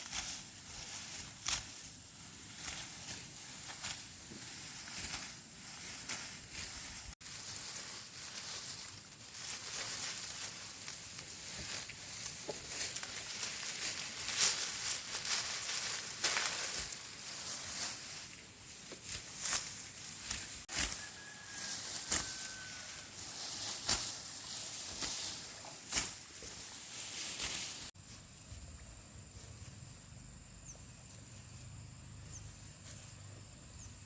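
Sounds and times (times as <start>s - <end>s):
dry rustling and crackling: 0.0s - 28.0s.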